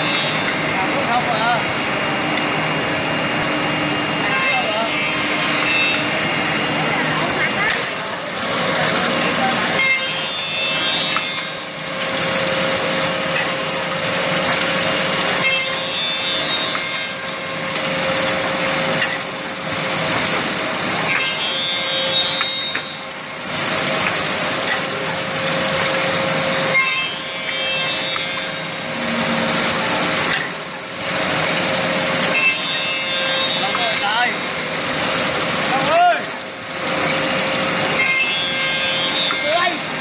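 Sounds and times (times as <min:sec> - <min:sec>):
cutters and brushes machining wood: 0:00.0 - 0:40.0
woodworking machine humming: 0:00.0 - 0:40.0.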